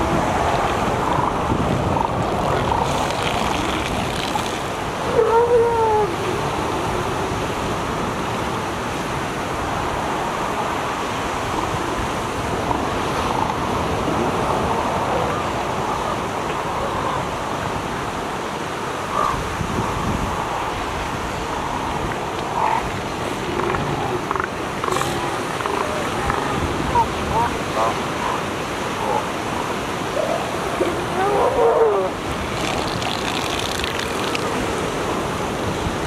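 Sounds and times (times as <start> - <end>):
ocean surf washing: 0.0 - 36.0
wind on microphone: 0.0 - 36.0.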